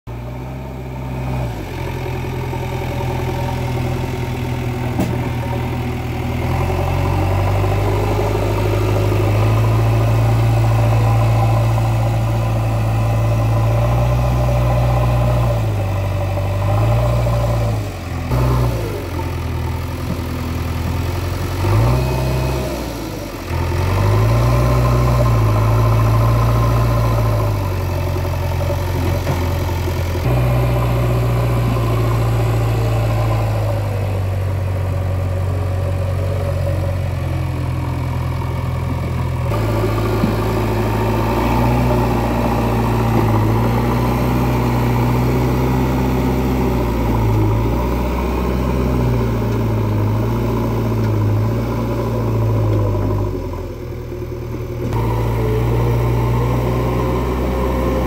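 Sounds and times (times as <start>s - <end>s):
diesel engine running under load: 0.1s - 58.0s.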